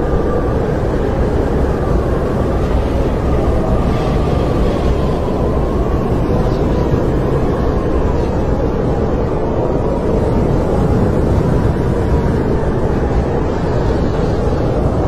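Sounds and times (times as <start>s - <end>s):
snowstorm wind rushing and whistling: 0.0s - 15.0s.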